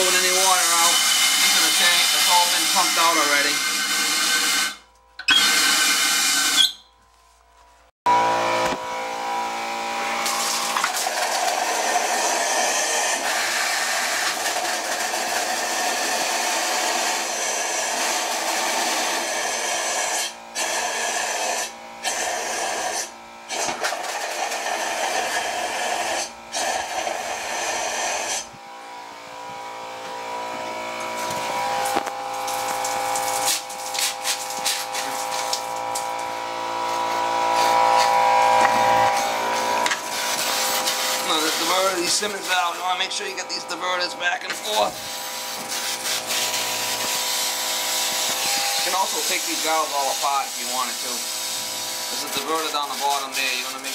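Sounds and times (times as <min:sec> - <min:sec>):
compressed air hissing through pipes: 0:00.0 - 0:06.8, 0:10.2 - 0:28.6, 0:31.1 - 0:53.9.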